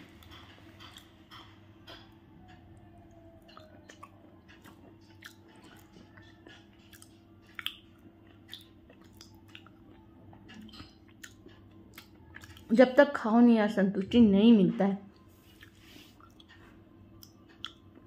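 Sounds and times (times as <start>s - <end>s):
person chewing: 0.0s - 12.8s, 15.2s - 18.0s
low steady hum: 0.0s - 18.0s.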